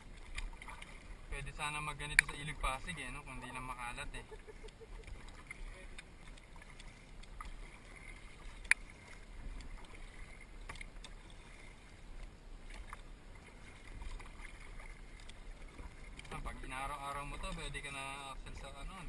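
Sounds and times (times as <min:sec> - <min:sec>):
kayak paddles dipping in water: 0:00.0 - 0:19.0
light water splashes: 0:00.0 - 0:19.0.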